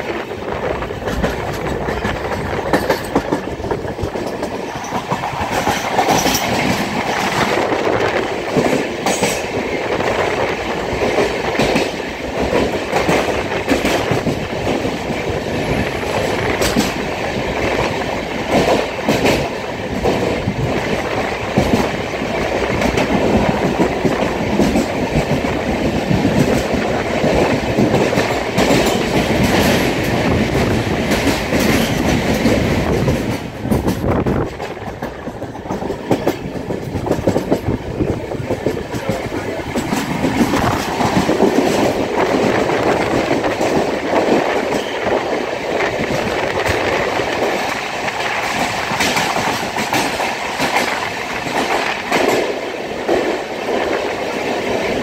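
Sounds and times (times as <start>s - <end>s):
train wheels rumbling on rails: 0.0s - 55.0s
wheels clicking over rail joints: 0.6s - 55.0s.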